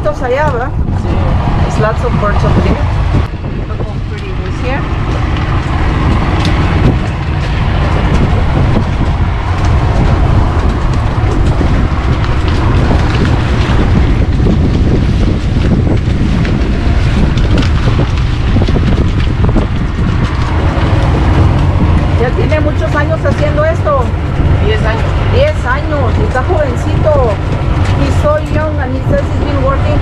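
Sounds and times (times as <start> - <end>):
boat engine rumble: 0.0 - 30.0
water noise: 0.0 - 30.0
wind buffeting microphone: 0.0 - 30.0.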